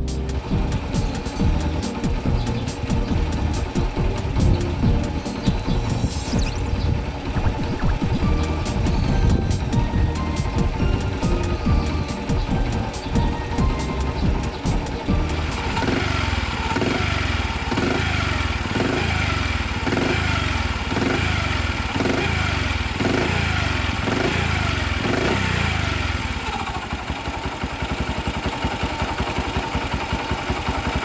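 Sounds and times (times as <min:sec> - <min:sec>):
engine idling: 0:00.0 - 0:31.0
small motorcycle engine revving: 0:00.0 - 0:31.0.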